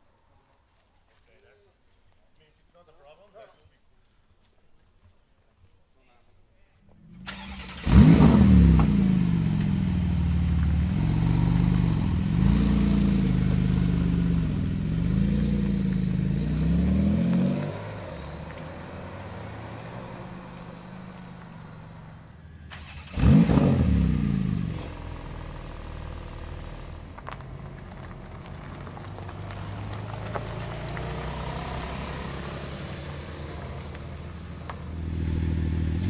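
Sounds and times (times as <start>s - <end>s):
car engine starting with loud flare: 7.0s - 36.0s.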